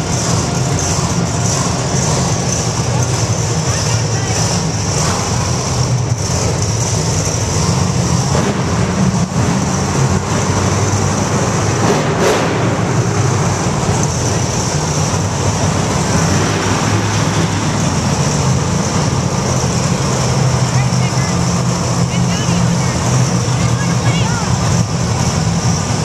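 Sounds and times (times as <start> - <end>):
monster truck engines droning: 0.0 - 26.0.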